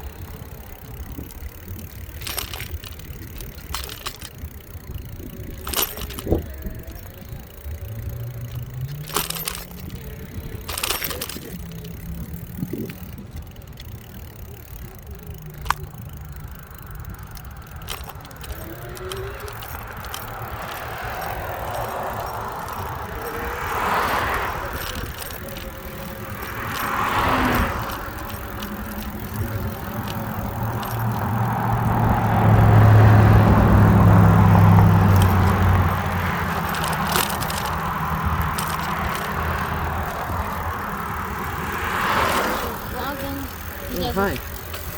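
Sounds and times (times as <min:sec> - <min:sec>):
low engine hum: 0:00.0 - 0:44.9
vehicles passing: 0:00.0 - 0:44.9
wind and road noise: 0:00.0 - 0:44.9.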